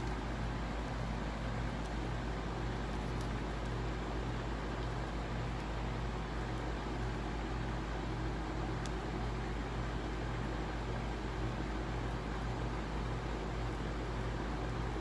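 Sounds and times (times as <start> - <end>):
kindling crackle: 0.0 - 15.0
low hum and hiss: 0.0 - 15.0.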